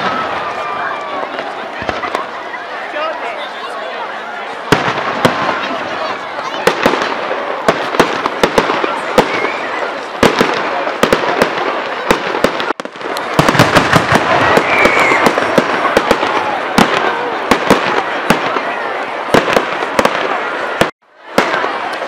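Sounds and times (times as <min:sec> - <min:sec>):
fireworks cracking and popping: 0:00.0 - 0:03.2, 0:04.6 - 0:22.0.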